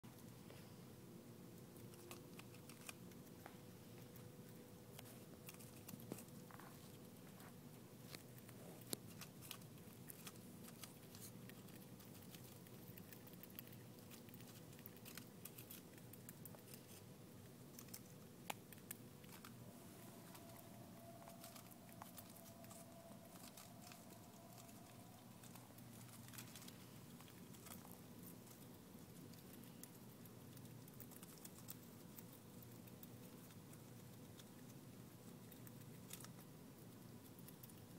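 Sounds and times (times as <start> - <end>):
faint steady hum: 0.0 - 37.9
squirrel tearing lettuce leaves: 1.4 - 37.9.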